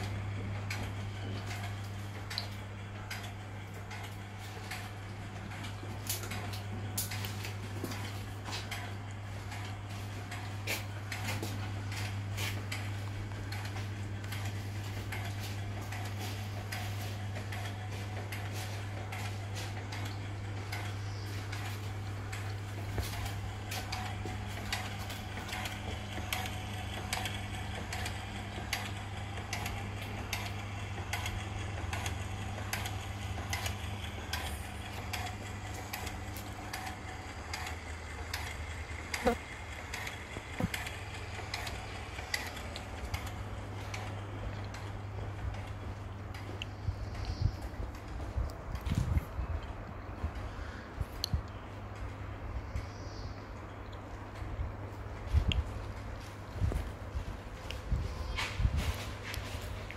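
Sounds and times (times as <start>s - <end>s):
small clicks and ticks: 0.0s - 50.5s
water pumps humming: 0.0s - 52.8s.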